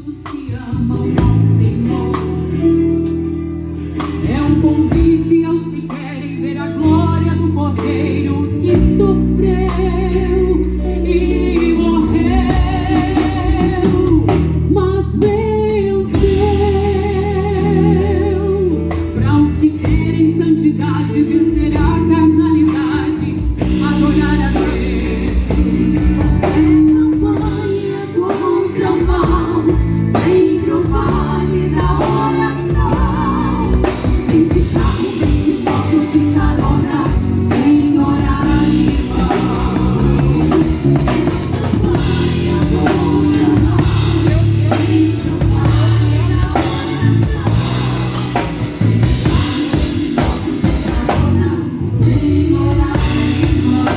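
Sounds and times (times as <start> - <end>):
band with drum kit and bass: 0.0 - 53.9
gospel singing: 0.0 - 53.9.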